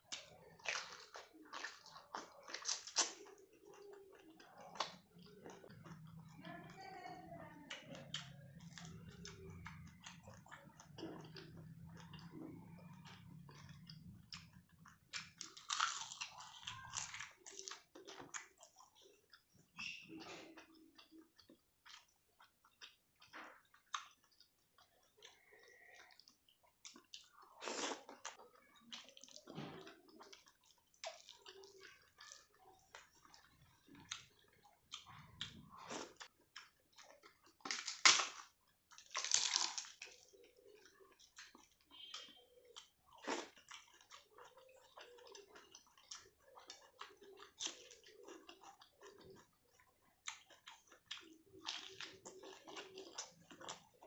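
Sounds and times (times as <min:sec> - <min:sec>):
chewing and wet mouth noises: 0:00.0 - 0:06.8, 0:07.6 - 0:54.0
wet squishing of food: 0:00.0 - 0:54.0.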